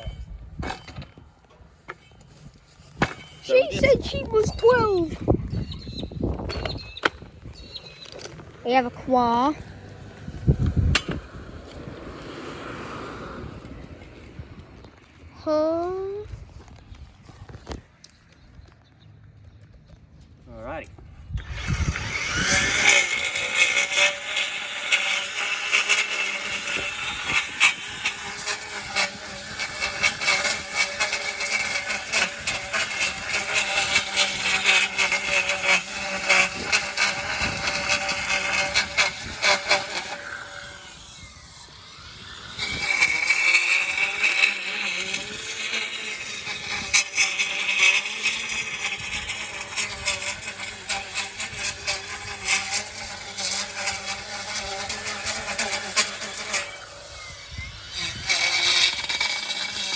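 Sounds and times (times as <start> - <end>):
edger motor whining: 0.0 - 17.8, 21.0 - 59.9.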